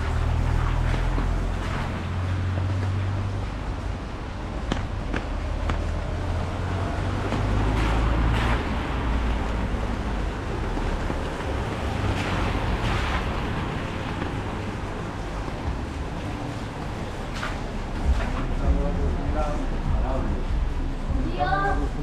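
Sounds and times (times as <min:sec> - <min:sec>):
rain on an umbrella: 0:00.0 - 0:20.7
low rumble: 0:00.0 - 0:22.0.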